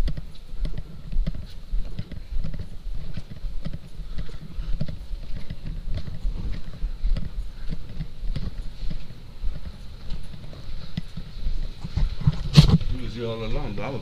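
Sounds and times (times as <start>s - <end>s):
footsteps on carpet: 0.0s - 14.0s
camera rubbing on clothing: 0.1s - 13.1s.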